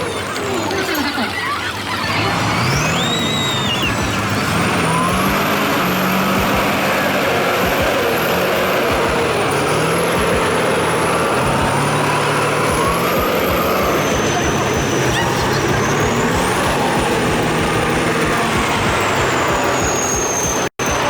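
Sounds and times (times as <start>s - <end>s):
diesel engine under load: 0.0s - 21.0s
high whistle: 2.4s - 21.0s.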